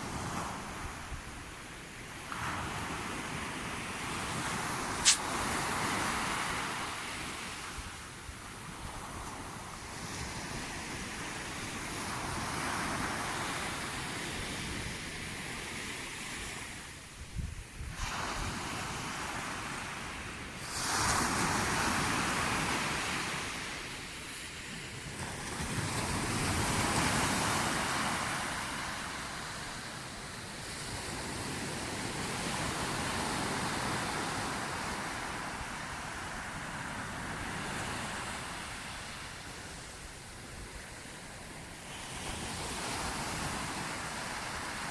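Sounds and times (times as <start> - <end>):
sea waves washing in: 2.2 - 16.8, 17.9 - 44.9.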